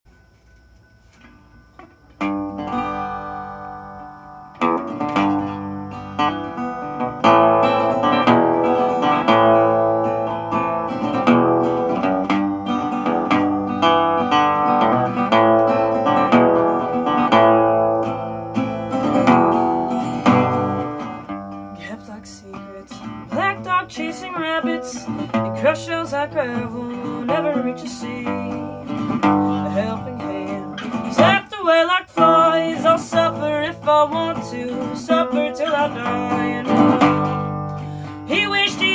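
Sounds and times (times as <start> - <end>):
resonator guitar playing: 0.1 - 38.9.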